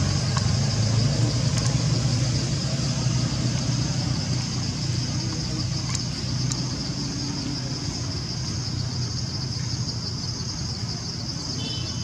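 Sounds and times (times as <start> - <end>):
low engine-like hum: 0.0 - 11.6
high-pitched insect chorus: 0.0 - 12.0.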